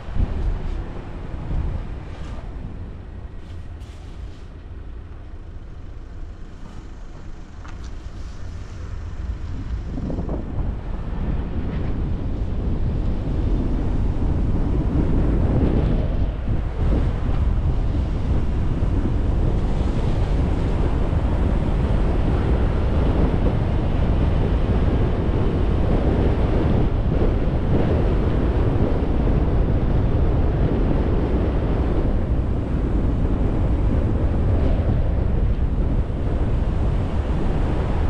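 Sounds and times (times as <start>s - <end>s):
wind blowing against microphone: 0.0s - 38.0s.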